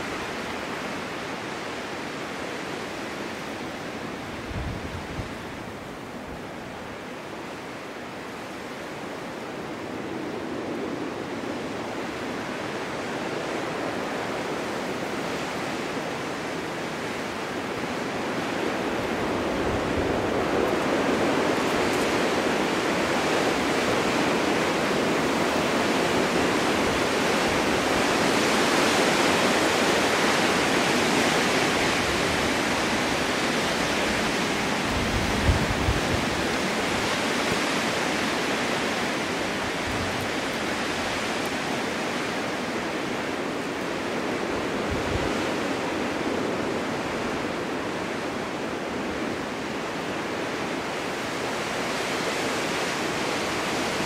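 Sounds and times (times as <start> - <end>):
wind rushing through forest: 0.0 - 54.0.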